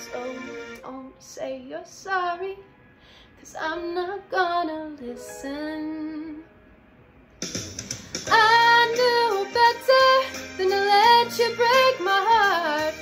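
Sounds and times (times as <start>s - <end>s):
woman singing pop ballad: 0.0s - 2.7s, 3.4s - 6.5s, 8.1s - 13.0s.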